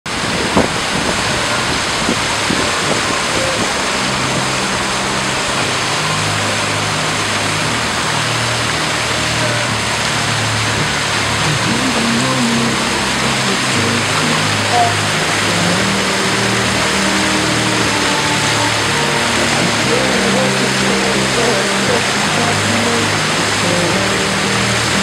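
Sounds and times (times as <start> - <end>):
fountain water splashing: 0.1 - 25.0
low hum shifting in pitch: 0.1 - 25.0.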